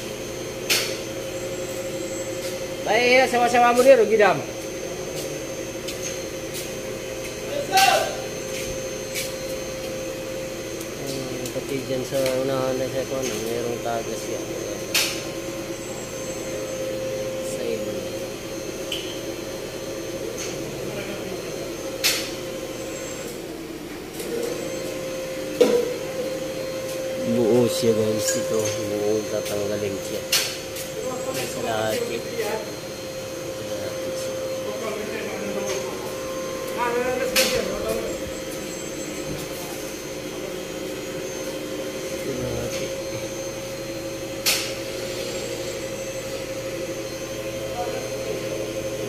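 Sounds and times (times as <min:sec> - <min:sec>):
steady machine hum: 0:00.0 - 0:49.0.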